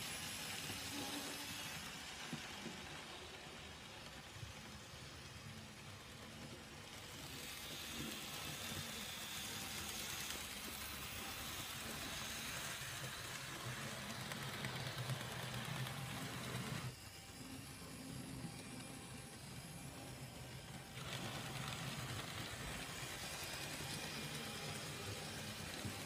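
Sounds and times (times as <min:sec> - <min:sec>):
model train motor humming: 0:00.0 - 0:26.0
model train wheels on rails: 0:00.0 - 0:26.0.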